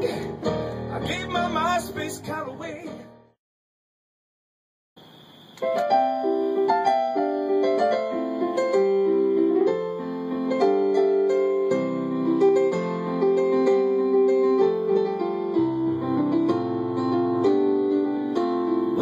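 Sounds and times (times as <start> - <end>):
solo piano: 0.0 - 3.4, 5.6 - 19.0.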